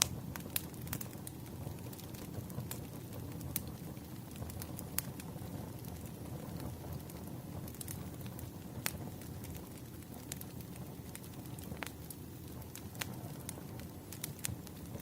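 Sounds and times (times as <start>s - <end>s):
fire popping: 0.0s - 15.0s
low rumble of burning: 0.0s - 15.0s.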